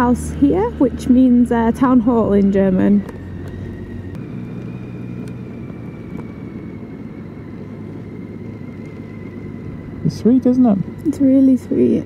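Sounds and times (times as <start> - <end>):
faint high whine: 0.0 - 12.0
motorcycle engine running: 0.0 - 12.0.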